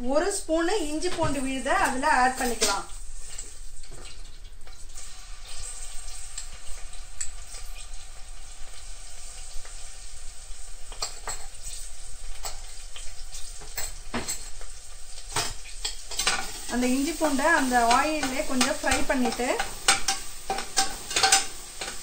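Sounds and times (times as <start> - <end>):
hot oil sizzling in pot: 0.0 - 22.0.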